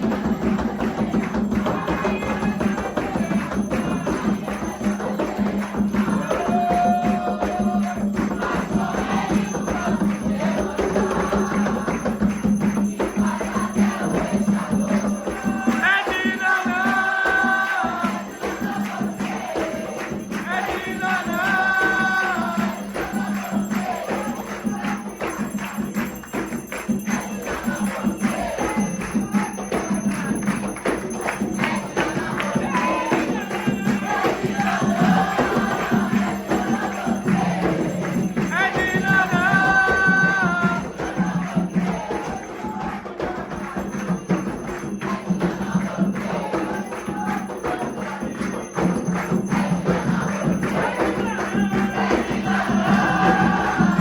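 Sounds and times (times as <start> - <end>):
fast hand percussion: 0.0 - 54.0
voices singing a chant: 0.0 - 54.0.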